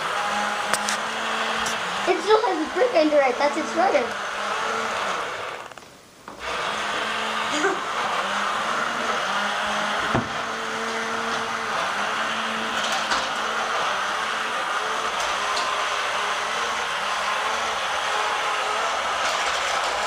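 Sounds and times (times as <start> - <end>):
toy tank motors whirring: 0.0 - 5.8, 6.4 - 20.0.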